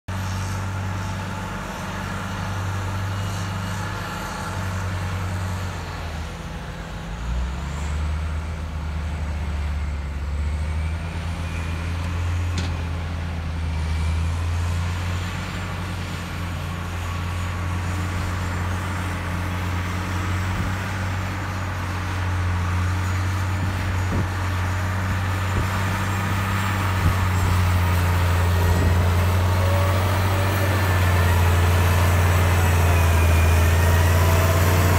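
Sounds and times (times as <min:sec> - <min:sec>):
diesel earthmover engine drone: 0:00.1 - 0:34.9.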